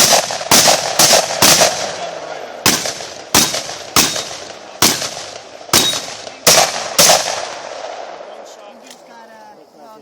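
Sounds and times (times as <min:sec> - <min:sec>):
shotgun shots with echo: 0:00.0 - 0:08.3.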